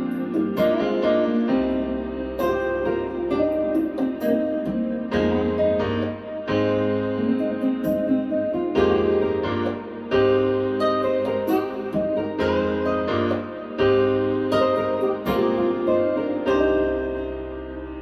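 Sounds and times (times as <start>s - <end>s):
piano chords through speakers: 0.0s - 18.0s.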